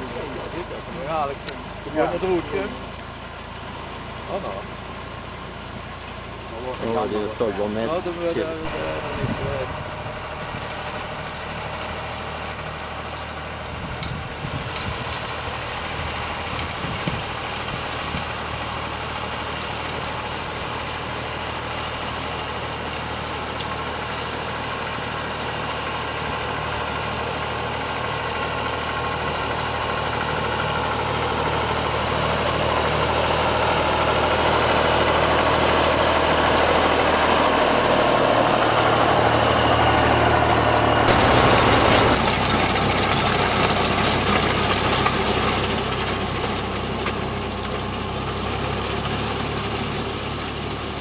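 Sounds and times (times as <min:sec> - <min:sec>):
tractor engine running under load: 0:00.0 - 0:51.0.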